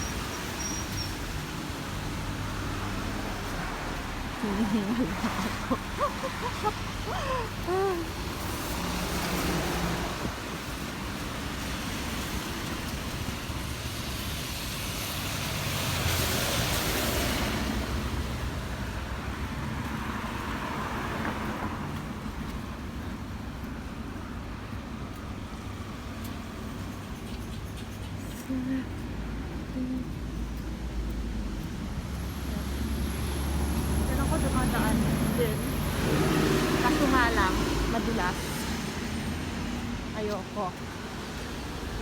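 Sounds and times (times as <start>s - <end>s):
traffic on a wet street: 0.0s - 42.0s.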